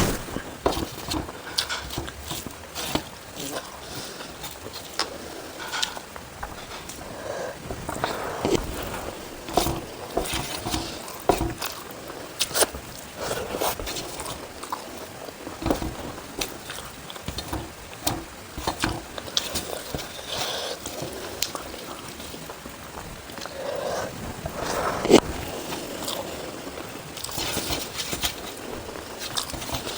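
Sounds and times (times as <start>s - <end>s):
person chewing food: 0.0s - 29.9s.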